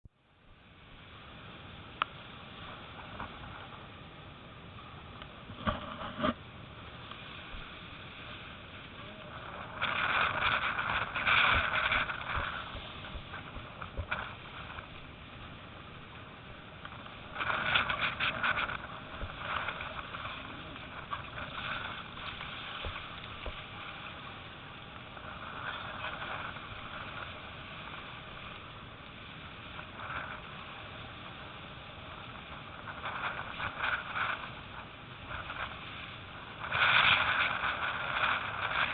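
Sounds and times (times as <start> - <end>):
rushing water spray: 0.3 - 38.9
gusty wind rushing: 1.0 - 38.9.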